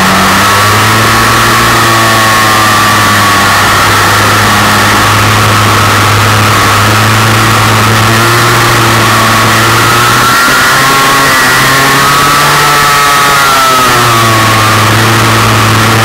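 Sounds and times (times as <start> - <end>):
kart engine running: 0.0 - 16.0
wind rush on microphone: 0.0 - 16.0.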